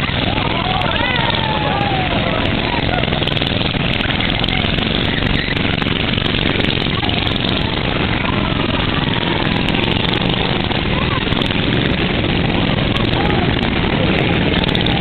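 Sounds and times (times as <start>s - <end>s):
go-kart engines passing: 0.0s - 15.0s.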